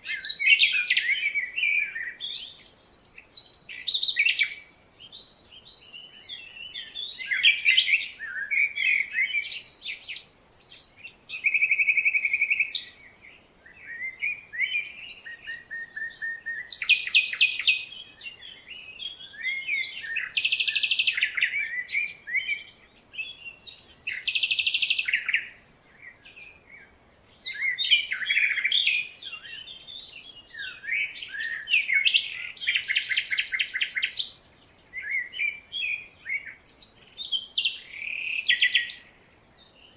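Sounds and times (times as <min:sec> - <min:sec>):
jungle birds chirping and whistling: 0:00.0 - 0:39.9.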